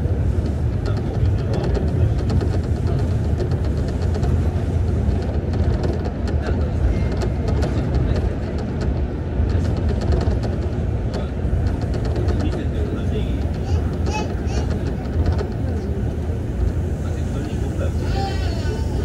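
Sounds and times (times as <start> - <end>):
monorail train low rumble: 0.0 - 19.0
faint ticks and rattles: 0.4 - 17.8.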